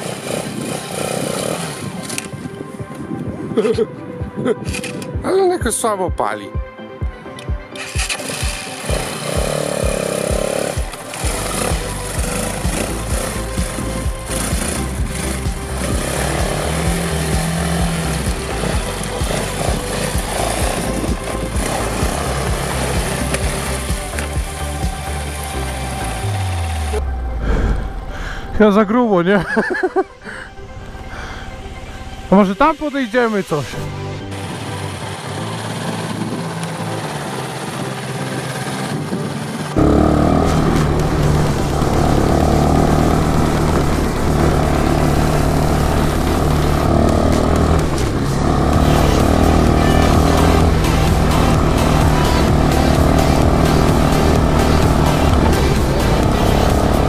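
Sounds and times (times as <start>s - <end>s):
quad bike engine running: 0.0s - 3.7s, 7.5s - 28.1s, 33.6s - 57.0s
background music: 0.0s - 57.0s.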